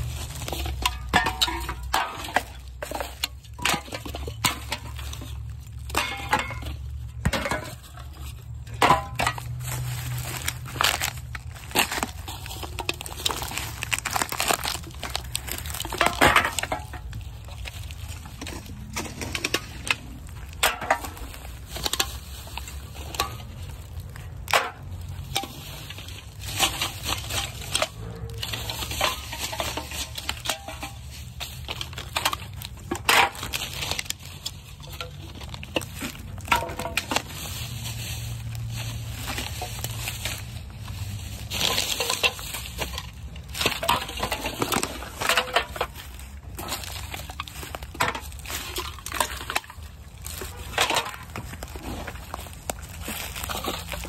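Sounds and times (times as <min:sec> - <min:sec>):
aluminum cans clinking: 0:00.0 - 0:54.0
litter and leaves crunching underfoot: 0:00.0 - 0:54.0.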